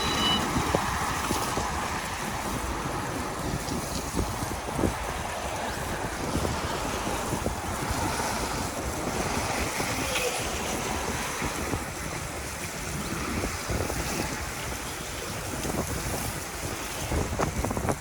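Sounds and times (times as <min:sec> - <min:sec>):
road noise on wet streets: 0:00.0 - 0:18.0
wind buffeting microphone: 0:00.0 - 0:18.0.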